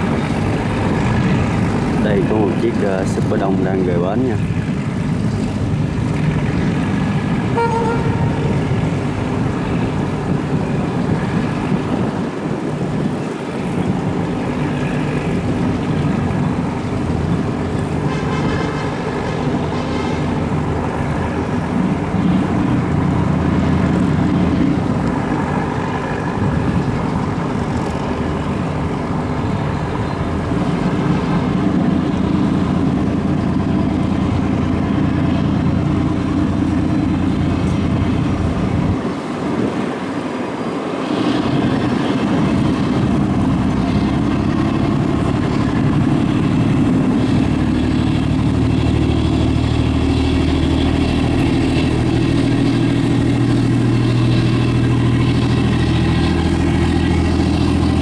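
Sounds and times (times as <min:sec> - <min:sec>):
ferry engines droning: 0:00.0 - 0:58.0.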